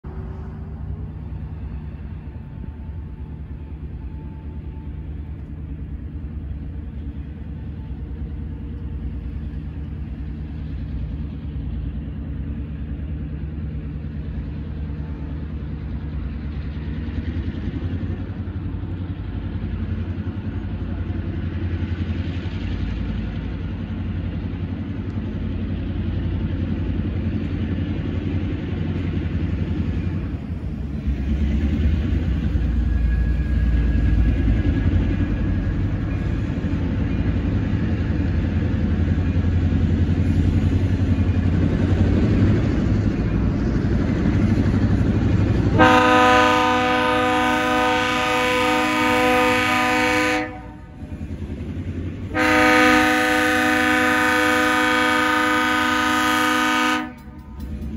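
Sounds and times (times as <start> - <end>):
diesel locomotive engine rumbling: 0.0 - 57.9.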